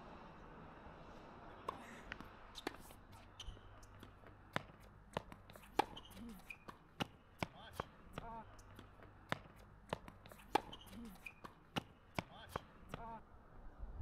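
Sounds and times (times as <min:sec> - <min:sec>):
tennis ball bouncing on court: 0:01.5 - 0:13.2.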